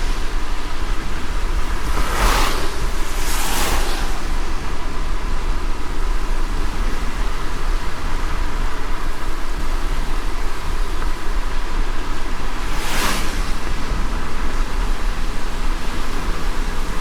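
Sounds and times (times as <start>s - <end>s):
road and wind noise: 0.0s - 17.0s
tyres and engine rumble: 0.0s - 17.0s.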